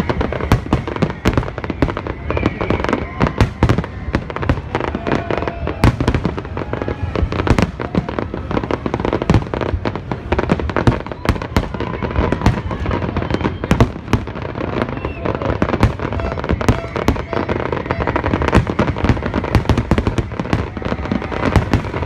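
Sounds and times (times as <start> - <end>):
fireworks bangs and crackles: 0.0 - 22.0
rumble of distant explosions: 0.0 - 22.0.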